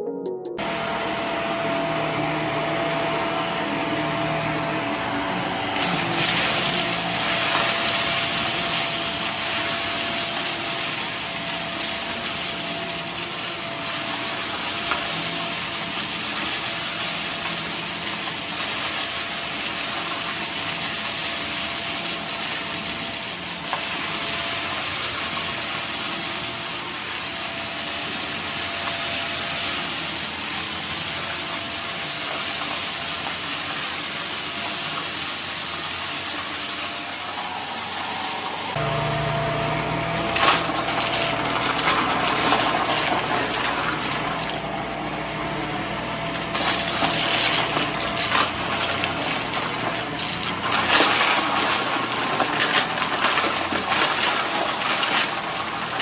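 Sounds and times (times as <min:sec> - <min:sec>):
vacuum cleaner running: 0:00.6 - 0:56.0.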